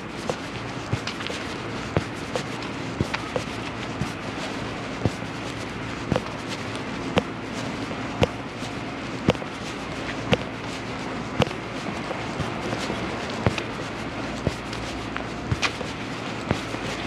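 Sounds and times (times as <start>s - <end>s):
city street noise hum: 0.0s - 17.0s.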